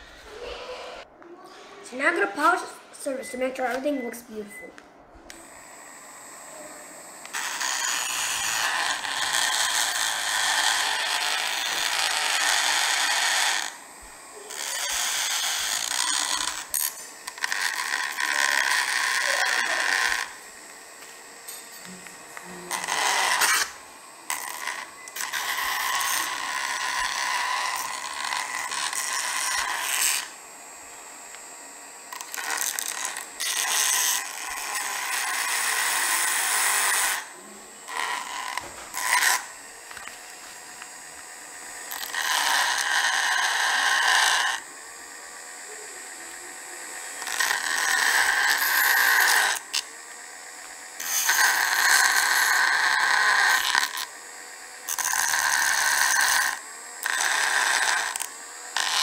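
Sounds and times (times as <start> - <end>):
rotary tool whine with scraping: 0.0 - 59.0.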